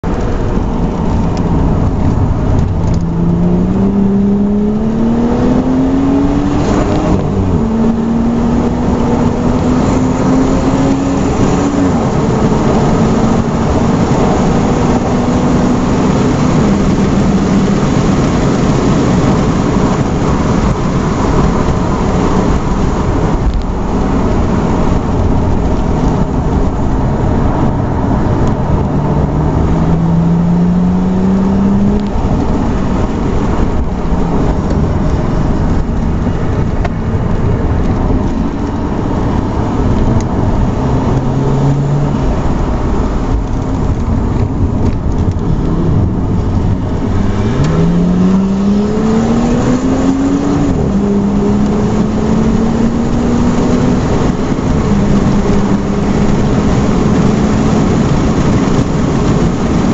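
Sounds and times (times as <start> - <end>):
car engine accelerating: 0.0 - 59.9
wind noise: 0.0 - 59.9.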